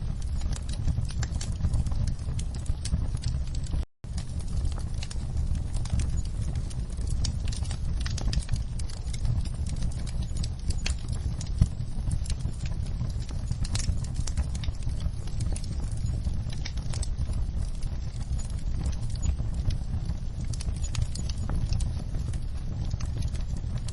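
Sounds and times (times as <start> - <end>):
logs crackling and popping: 0.0 - 23.9
low rumble of flames: 0.0 - 23.9.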